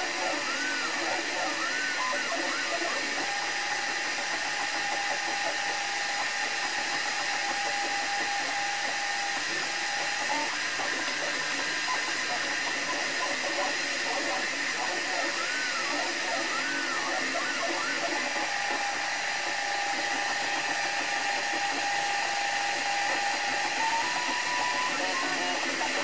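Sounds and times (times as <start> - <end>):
stepper motor chirps: 0.0 - 26.0
stepper motors whirring: 0.0 - 26.0.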